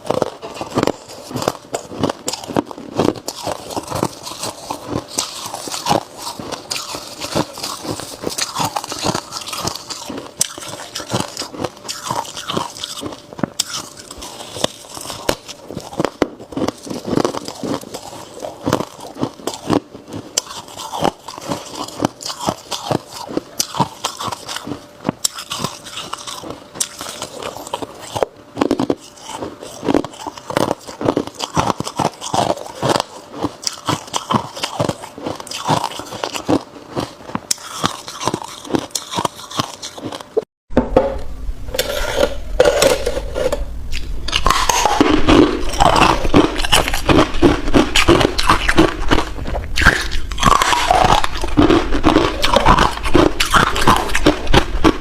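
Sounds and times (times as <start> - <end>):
ice being chewed and crunched: 0.0 - 40.5, 41.8 - 55.0.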